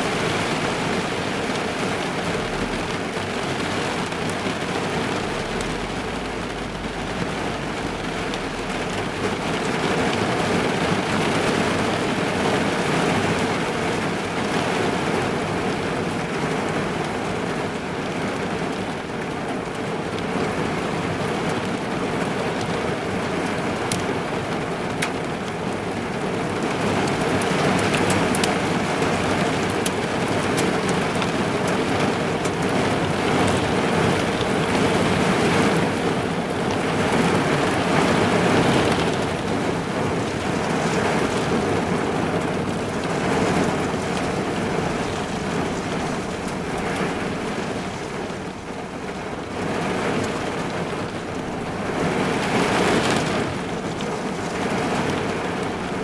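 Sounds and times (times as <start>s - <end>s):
heavy rain drumming on car roof: 0.0s - 56.0s.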